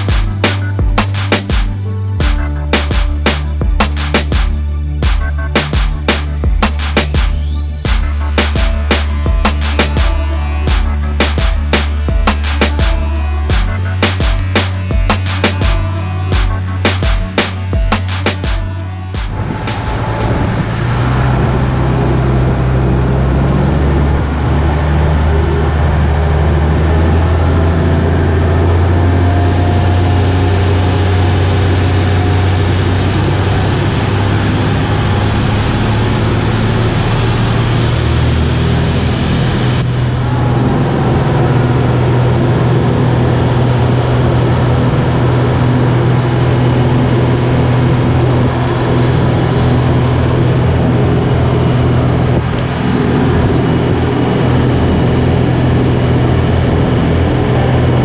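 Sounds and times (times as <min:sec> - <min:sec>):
motor boat engine droning: 0:00.0 - 0:58.0.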